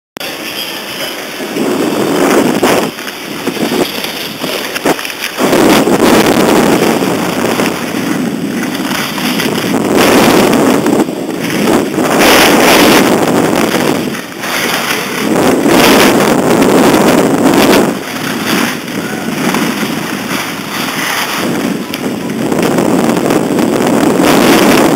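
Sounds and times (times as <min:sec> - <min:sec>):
skis sliding over snow: 0:00.2 - 0:24.9
wind buffeting microphone: 0:00.2 - 0:24.9.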